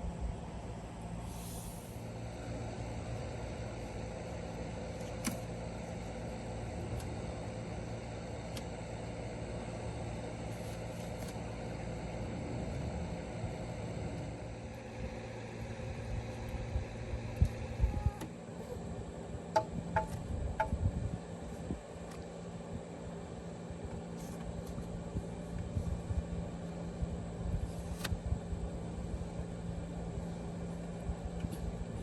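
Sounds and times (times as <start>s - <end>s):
machine humming: 0.0s - 27.5s.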